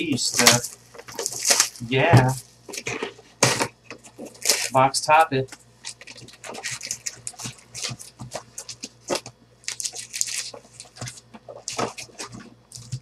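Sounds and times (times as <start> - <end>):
card packs crinkling: 0.0 - 13.0.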